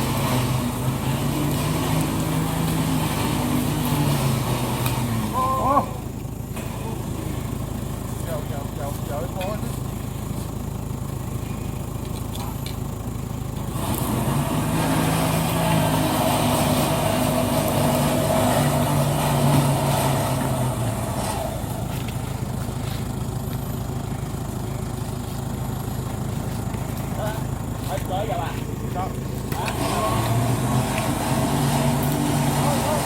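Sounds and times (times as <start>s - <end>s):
engine running under load: 0.0s - 33.0s.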